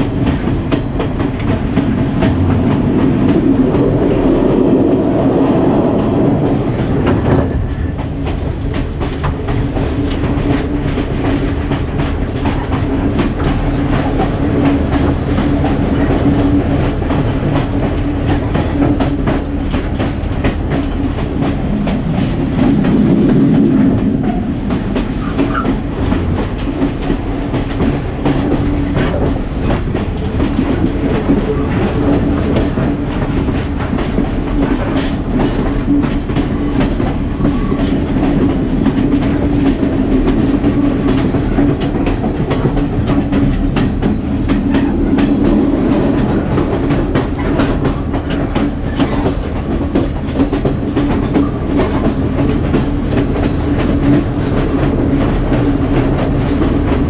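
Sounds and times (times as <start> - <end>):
train rumble with low drone: 0.0 - 57.0
wheels clacking over rails: 0.0 - 57.0.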